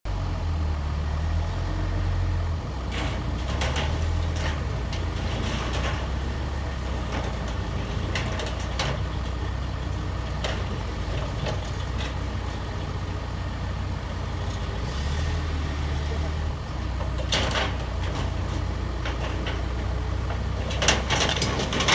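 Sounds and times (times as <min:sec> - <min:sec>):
diesel engine running: 0:00.1 - 0:21.9.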